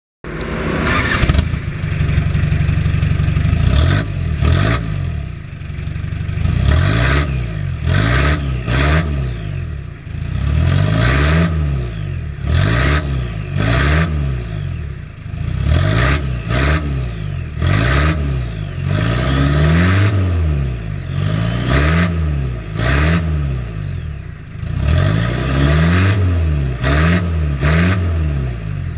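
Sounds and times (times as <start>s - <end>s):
pickup engine revving: 0.3s - 28.9s.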